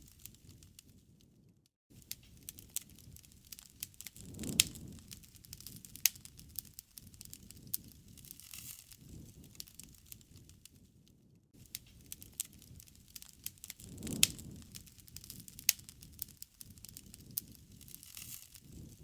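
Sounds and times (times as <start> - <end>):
wood fire crackling and popping: 0.0 - 19.0
low rustle: 2.2 - 19.0.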